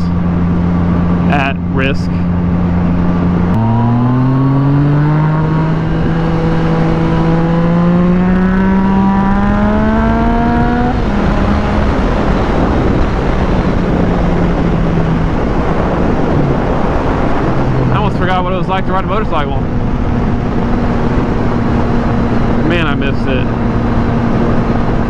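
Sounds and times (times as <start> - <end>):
motorcycle engine revving: 0.0 - 25.0
wind noise on microphone: 2.1 - 25.0.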